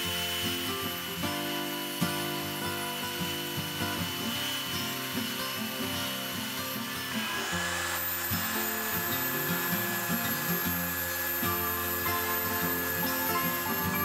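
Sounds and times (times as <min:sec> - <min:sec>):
power tool whining on wood: 0:00.0 - 0:14.0.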